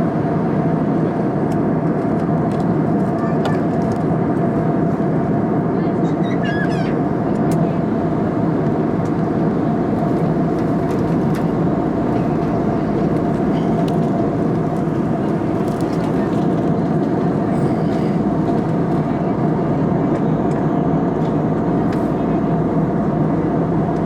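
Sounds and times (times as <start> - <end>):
jet airliner cabin drone: 0.0 - 24.0.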